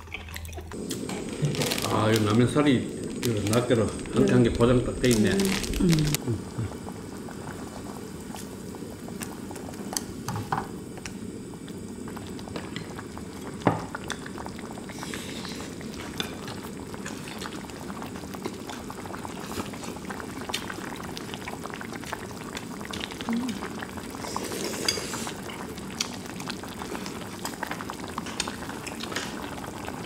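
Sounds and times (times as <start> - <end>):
stew bubbling in a pot: 0.0 - 30.0.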